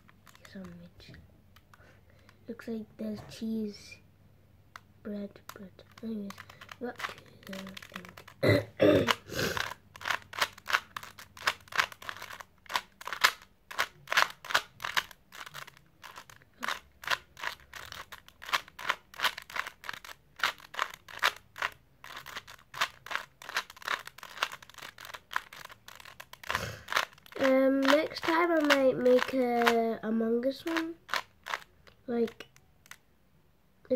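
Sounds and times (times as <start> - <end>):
puzzle cube clicking turns: 0.0 - 2.4, 4.7 - 33.0.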